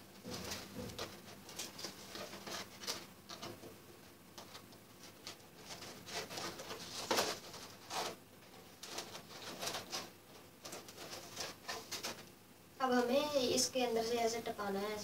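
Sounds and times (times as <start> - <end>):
paper rustling and crinkling: 0.2 - 12.3.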